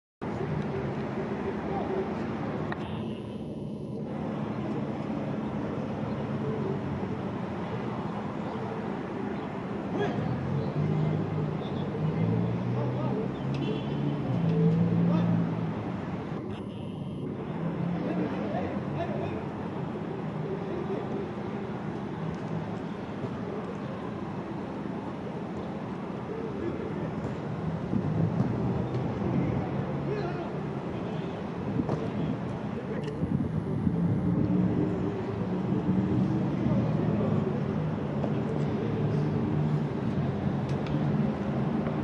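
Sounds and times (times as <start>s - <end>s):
city street traffic rumble: 0.2s - 42.0s
faint engine hum: 0.2s - 42.0s.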